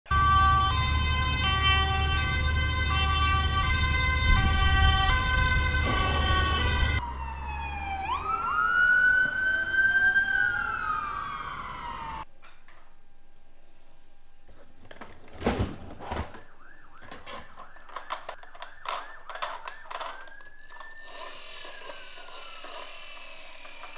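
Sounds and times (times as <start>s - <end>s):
two-tone toy siren: 0.1s - 12.3s, 16.2s - 23.9s
wailing toy siren: 0.1s - 12.3s, 16.2s - 23.9s.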